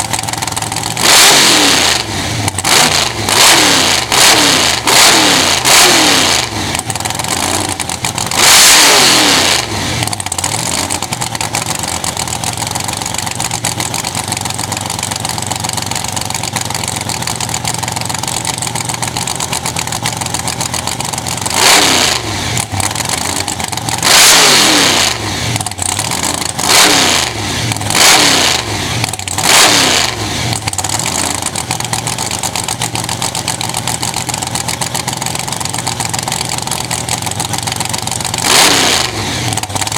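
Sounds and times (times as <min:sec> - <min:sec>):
drag car engine idling: 0:00.0 - 0:39.9
engine revving: 0:00.0 - 0:39.9.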